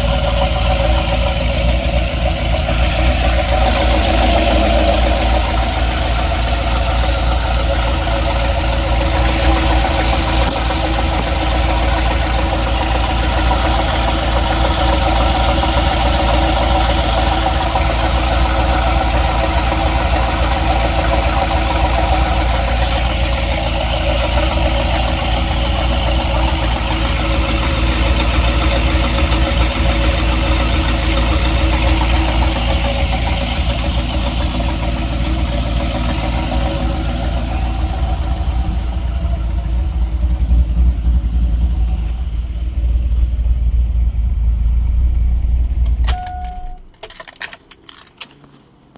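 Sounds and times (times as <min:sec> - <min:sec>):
engine knocking: 0:00.0 - 0:47.5
engine idling: 0:00.0 - 0:48.5.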